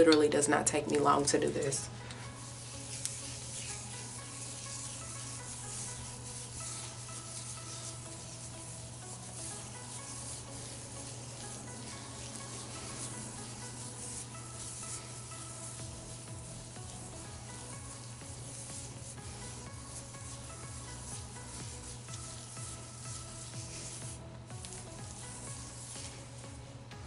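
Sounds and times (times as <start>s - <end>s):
comb rubbing through wet hair: 0.7s - 26.7s.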